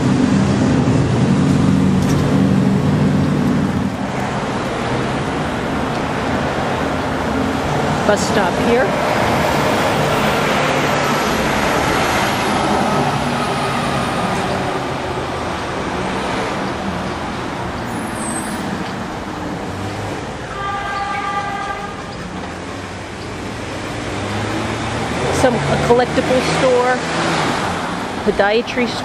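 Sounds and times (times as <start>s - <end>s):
passing traffic: 0.0s - 29.0s.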